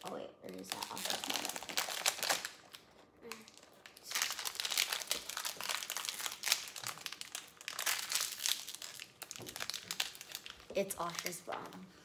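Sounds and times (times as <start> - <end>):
packaging crinkling: 0.6 - 11.9.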